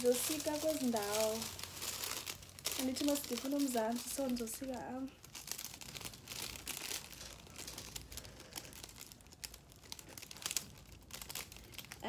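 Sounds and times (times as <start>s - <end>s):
metallic foil crinkling: 0.0s - 12.0s.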